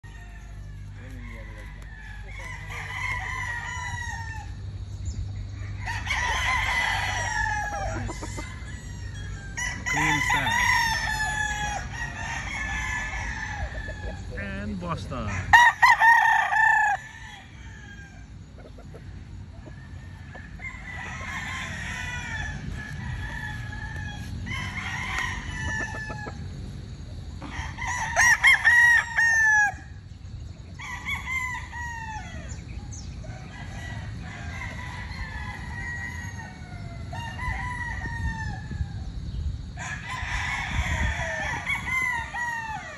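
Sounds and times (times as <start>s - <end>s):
roosters crowing: 0.0s - 42.9s.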